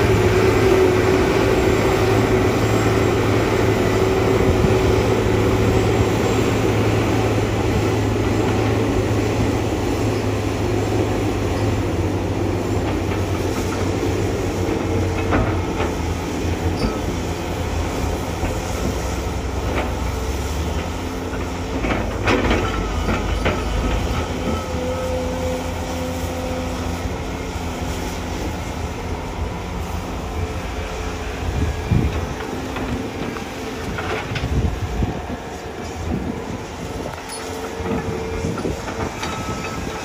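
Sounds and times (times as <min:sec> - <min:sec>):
excavator engine and hydraulics droning: 0:00.0 - 0:40.0.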